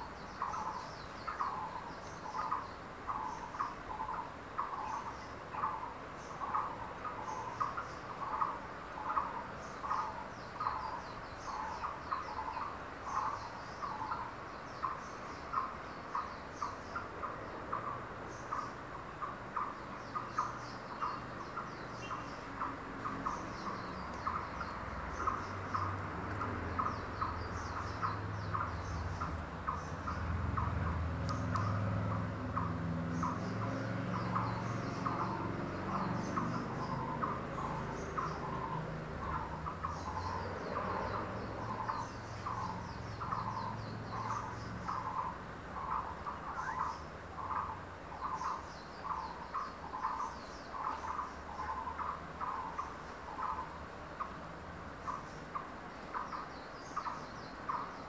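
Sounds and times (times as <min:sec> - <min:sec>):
forest ambience: 0:00.0 - 0:58.0.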